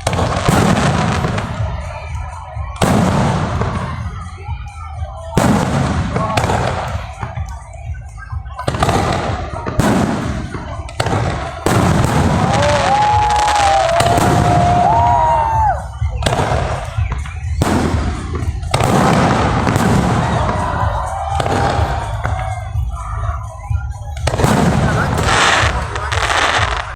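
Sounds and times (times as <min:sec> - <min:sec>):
fireworks booming: 0:00.0 - 0:07.6, 0:08.3 - 0:26.9
fireworks crackling: 0:00.0 - 0:26.9.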